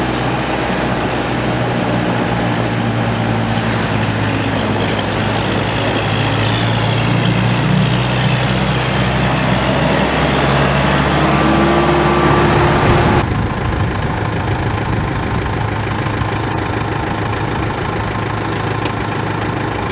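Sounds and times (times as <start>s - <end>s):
tractor diesel engine running: 0.0s - 19.9s
tractor engine idling: 0.0s - 19.9s.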